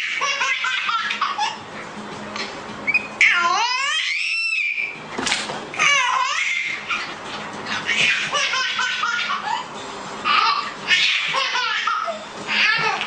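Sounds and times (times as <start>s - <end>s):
baby laughing: 0.0s - 1.7s, 2.4s - 5.0s, 5.7s - 13.0s.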